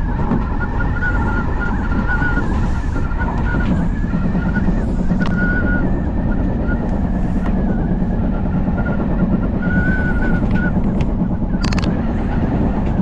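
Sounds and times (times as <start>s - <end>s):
high train squeal: 0.0s - 13.0s
train wheels and motors rumbling: 0.0s - 13.0s.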